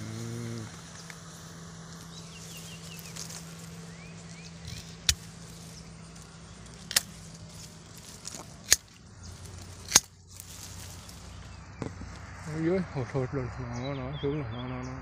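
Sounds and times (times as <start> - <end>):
birds chirping: 0.0 - 15.0
honeybees humming: 0.0 - 15.0.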